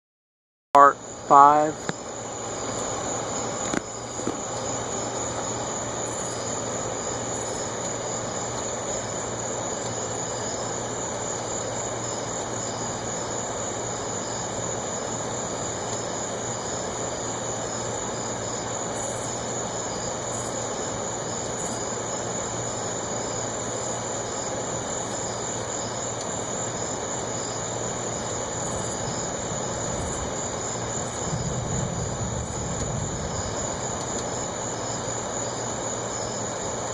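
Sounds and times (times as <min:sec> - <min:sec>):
crickets trilling: 0:00.8 - 0:36.9.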